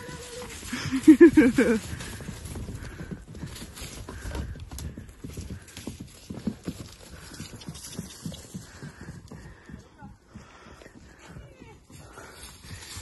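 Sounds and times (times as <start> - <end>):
horse hooves on packed earth: 0.0 - 13.0.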